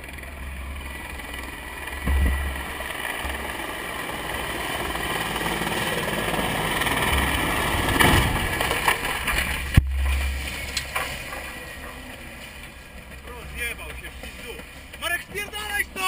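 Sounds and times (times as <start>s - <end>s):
helicopter rotor and engines: 0.0s - 16.0s.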